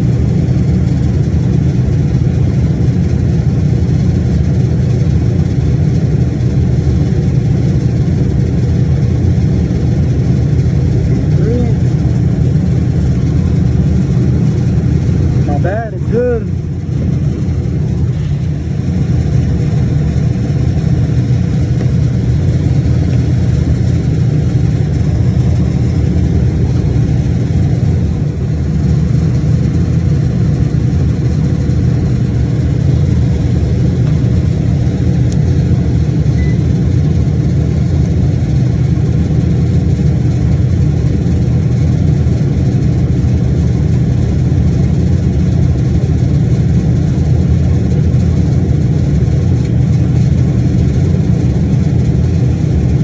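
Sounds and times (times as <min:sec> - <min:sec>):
compressor and fan humming: 0:00.0 - 0:53.0.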